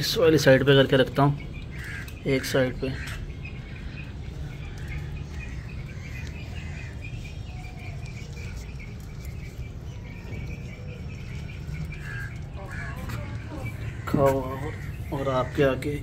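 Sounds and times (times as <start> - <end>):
duck bills pattering: 1.4 - 16.0.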